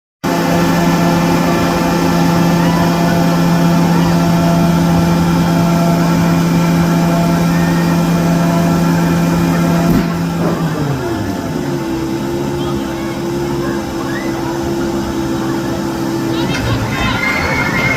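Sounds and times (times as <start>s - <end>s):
roller coaster machinery hum: 0.2s - 17.9s.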